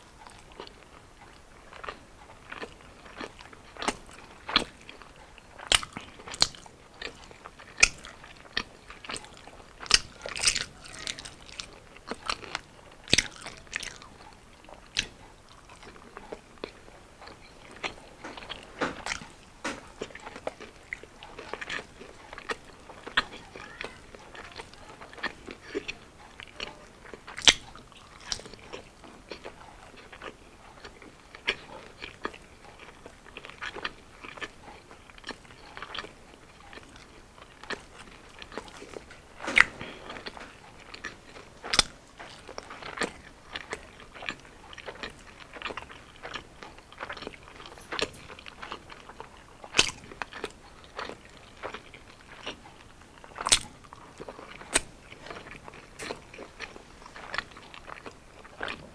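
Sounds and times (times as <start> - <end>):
crunchy biting and chewing: 0.2 - 58.8.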